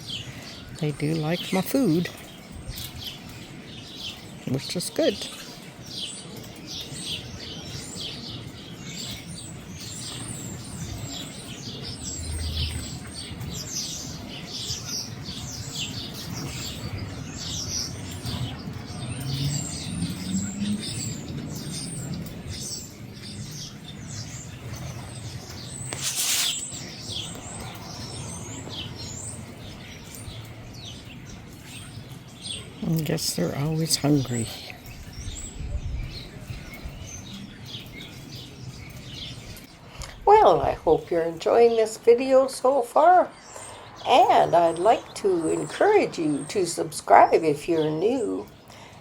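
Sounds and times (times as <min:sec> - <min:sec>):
songbirds chirping: 0:00.0 - 0:49.0.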